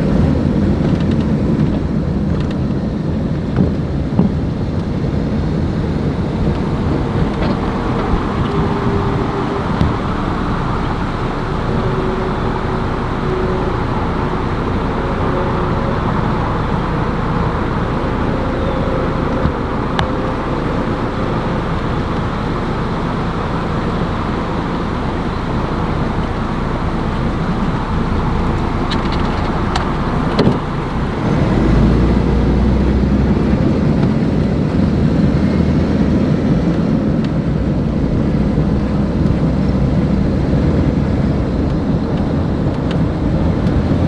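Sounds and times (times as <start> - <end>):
motor vehicle rumble and road noise: 0.0 - 44.0.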